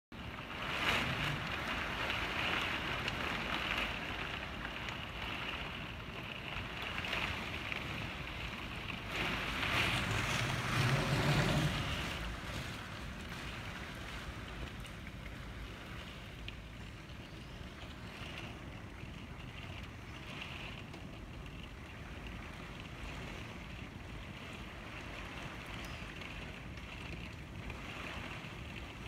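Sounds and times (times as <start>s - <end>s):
wind buffeting microphone: 0.1s - 29.0s.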